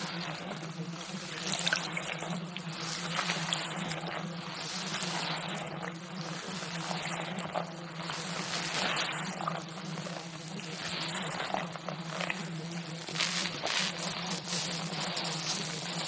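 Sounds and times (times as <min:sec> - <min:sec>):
low steady hum: 0:00.0 - 0:16.0
water-like hiss: 0:00.0 - 0:16.0.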